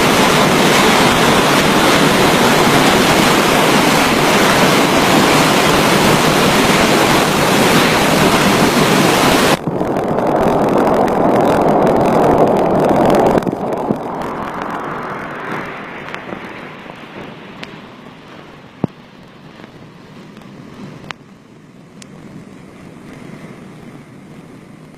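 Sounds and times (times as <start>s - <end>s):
wind roaring over microphone: 0.0s - 24.9s.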